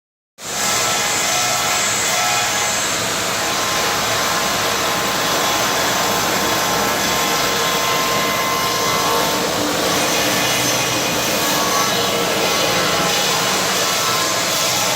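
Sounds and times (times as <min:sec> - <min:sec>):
stone milling machine cutting: 0:00.4 - 0:14.9
whining tones: 0:00.6 - 0:14.9.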